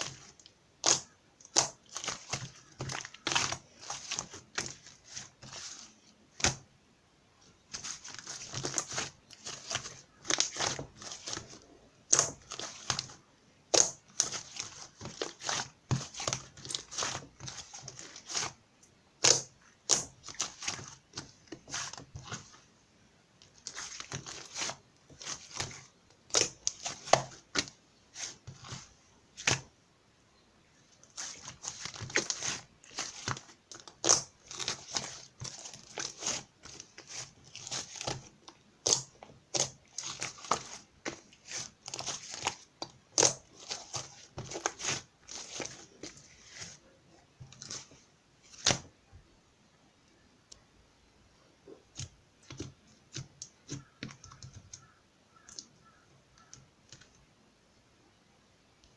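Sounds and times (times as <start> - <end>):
crinkling and rustling handling: 0.0 - 6.7, 7.4 - 29.8, 30.7 - 49.3, 51.4 - 57.3.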